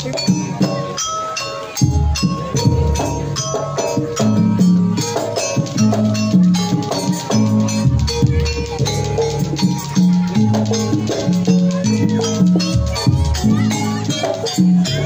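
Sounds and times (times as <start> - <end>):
hand drum strokes: 0.0 - 15.0
ringing metal percussion notes: 0.0 - 15.0.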